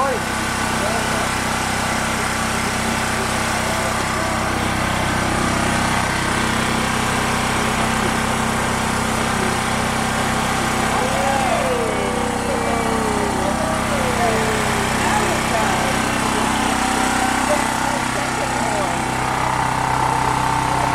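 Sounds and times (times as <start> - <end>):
portable generator engine droning: 0.0 - 20.9.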